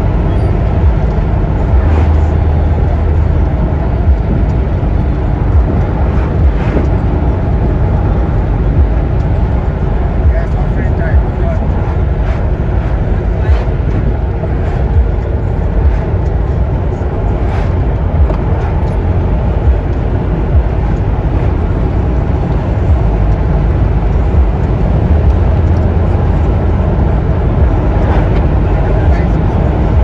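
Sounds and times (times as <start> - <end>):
vehicle rumble in motion: 0.0 - 30.0.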